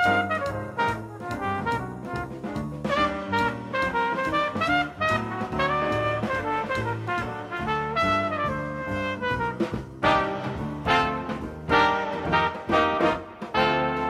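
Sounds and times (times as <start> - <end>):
instrumental jazz music: 0.0 - 14.0.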